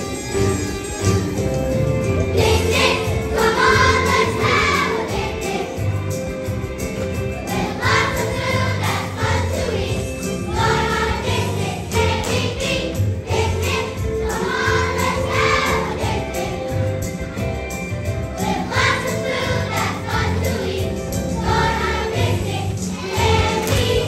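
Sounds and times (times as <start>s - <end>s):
instrumental accompaniment with beat: 0.0s - 24.0s
children's choir singing: 2.3s - 6.7s, 7.4s - 24.0s.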